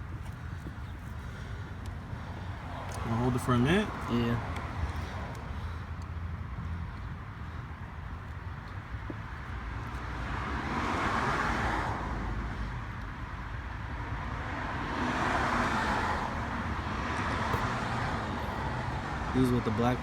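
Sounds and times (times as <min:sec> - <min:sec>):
cars passing by: 0:00.0 - 0:20.0.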